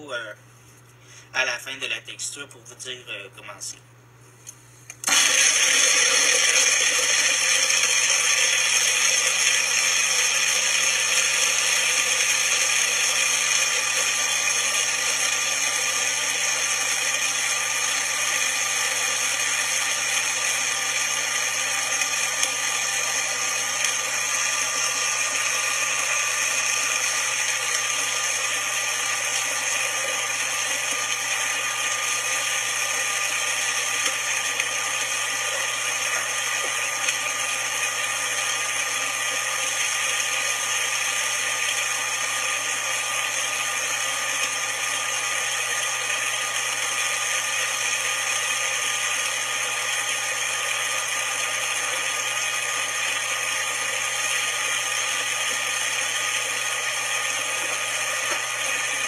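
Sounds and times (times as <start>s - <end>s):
blender motor running: 5.0s - 59.0s.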